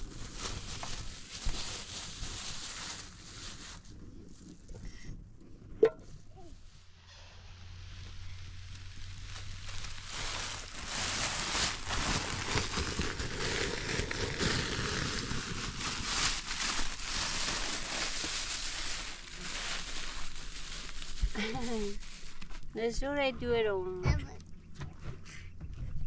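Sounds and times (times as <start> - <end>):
dry crackling and rustling: 0.0 - 24.6.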